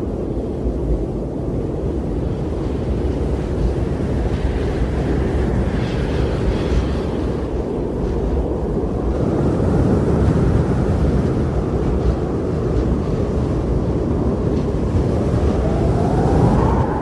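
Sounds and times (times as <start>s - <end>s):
strong blizzard wind blowing: 0.0s - 17.0s
whistling wind tone: 0.0s - 17.0s.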